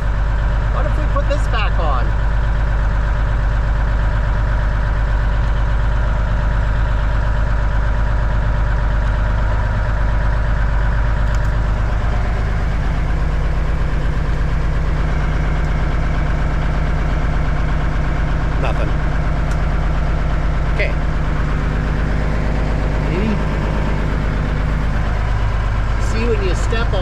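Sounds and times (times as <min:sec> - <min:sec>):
diesel engine fast idle: 0:00.0 - 0:27.0.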